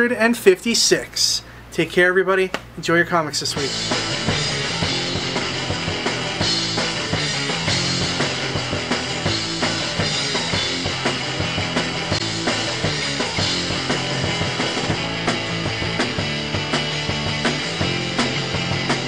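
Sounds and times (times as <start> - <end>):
rock music with drums: 3.5 - 19.0.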